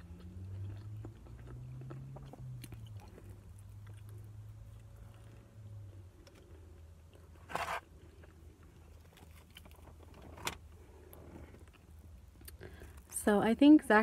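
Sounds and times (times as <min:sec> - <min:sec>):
chewing fried chicken: 0:00.0 - 0:13.1.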